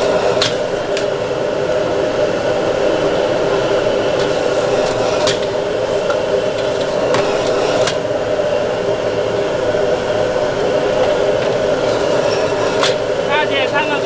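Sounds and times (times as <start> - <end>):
steady machine whirring: 0.0 - 14.0.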